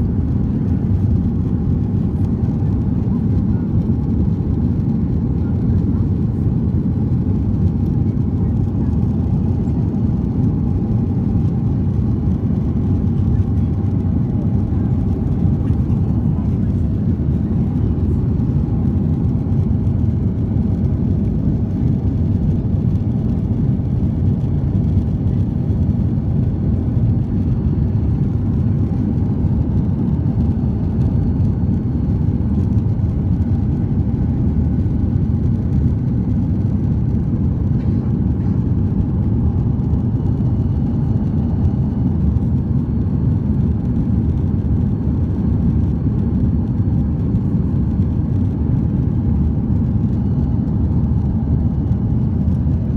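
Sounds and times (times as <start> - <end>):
jet engines droning: 0.0 - 52.9.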